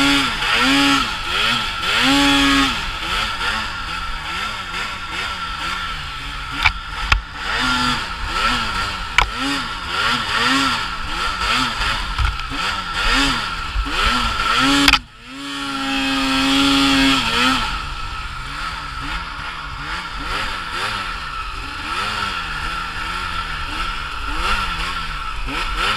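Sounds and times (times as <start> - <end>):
snowmobile engine revving: 0.0 - 25.9.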